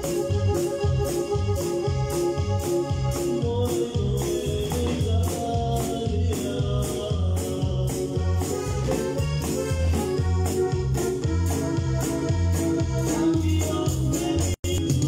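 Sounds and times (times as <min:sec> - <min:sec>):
drum kit beat: 0:00.0 - 0:15.0
electric bass line: 0:00.0 - 0:15.0.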